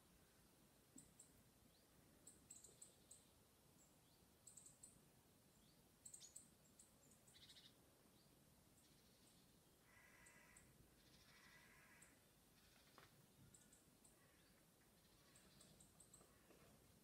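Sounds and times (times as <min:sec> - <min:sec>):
faint bird chirps: 0:00.2 - 0:17.0.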